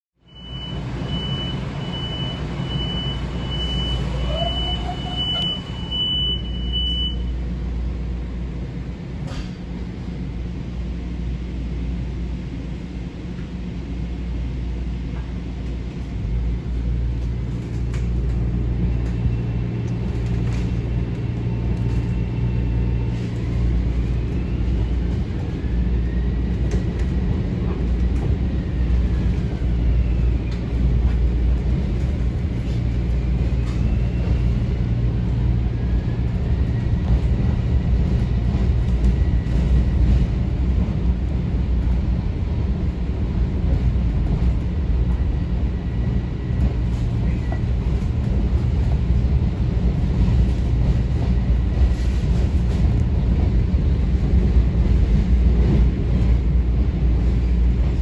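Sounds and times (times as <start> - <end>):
railcar rumble: 0.2 - 58.0.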